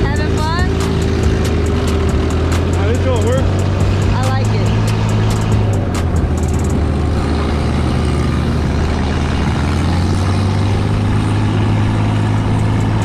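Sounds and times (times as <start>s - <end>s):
buggy engine humming: 0.0s - 13.0s.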